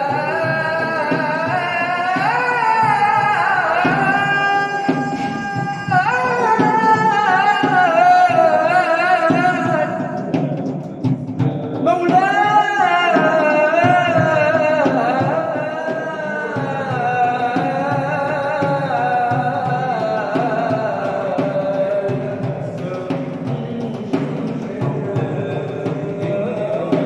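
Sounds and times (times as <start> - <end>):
man singing melismatic solo: 0.0 - 27.0
percussion beats: 0.0 - 27.0.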